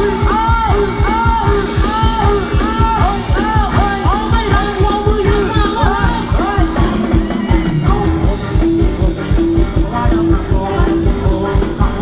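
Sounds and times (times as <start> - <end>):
fast drum beat: 0.0 - 12.0
live band playing dance music: 0.0 - 12.0
person singing: 0.0 - 12.0.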